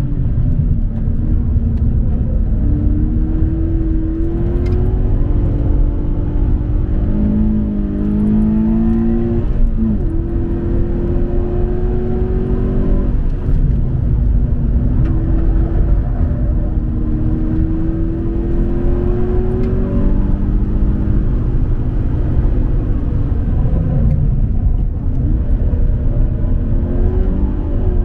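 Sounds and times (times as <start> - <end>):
car engine revving through gears: 0.0 - 28.0
road and wind rumble: 0.0 - 28.0.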